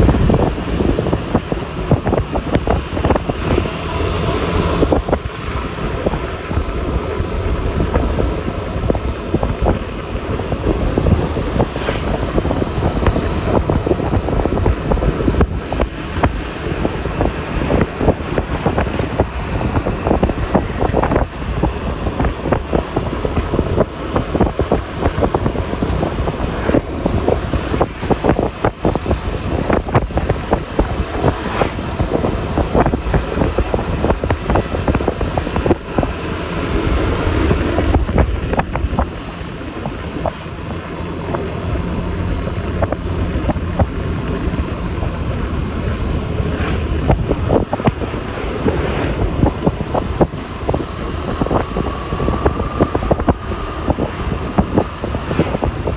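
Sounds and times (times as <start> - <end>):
scooter engine and road noise: 0.0 - 55.9
wind buffeting microphone: 0.0 - 55.9.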